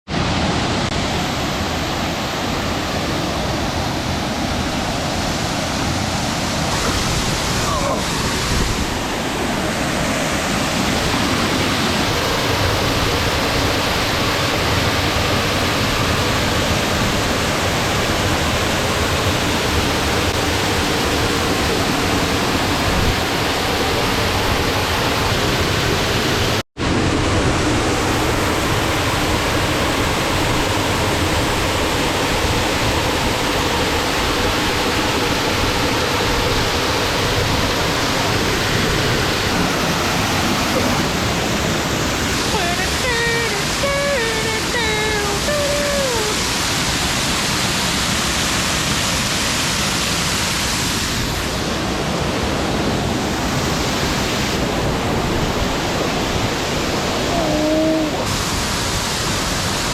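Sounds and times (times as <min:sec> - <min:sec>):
waterfall roaring: 0:00.1 - 0:59.9.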